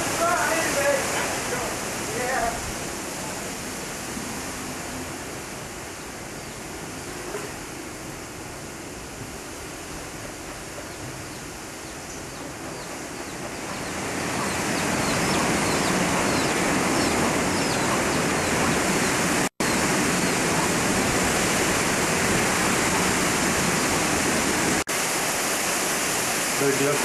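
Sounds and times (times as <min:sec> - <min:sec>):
hurricane wind and rain rushing: 0:00.0 - 0:27.0.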